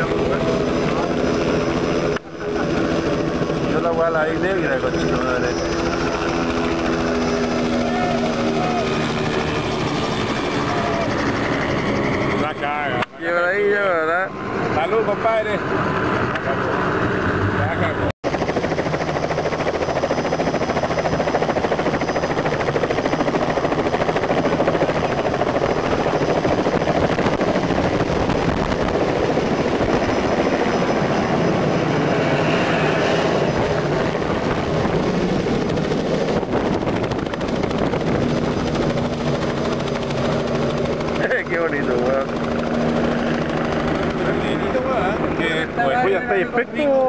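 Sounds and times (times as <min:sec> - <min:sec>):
helicopter running: 0:00.0 - 0:47.0.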